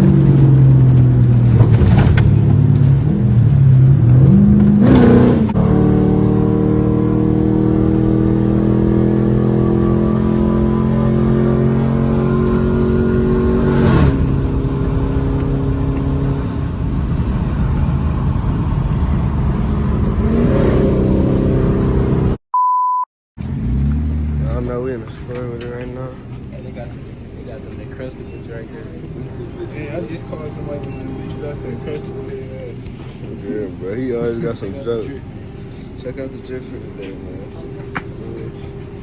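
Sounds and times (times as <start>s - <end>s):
car engine revving and droning: 0.0s - 22.4s, 23.4s - 25.4s, 28.8s - 39.0s.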